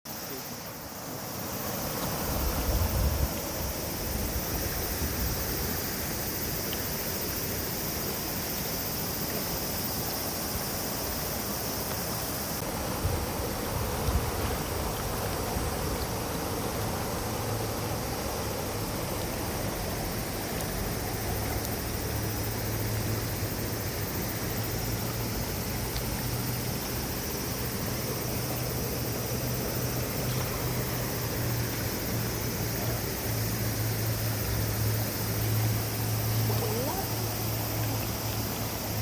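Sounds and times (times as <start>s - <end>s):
river water flowing: 0.1s - 39.0s.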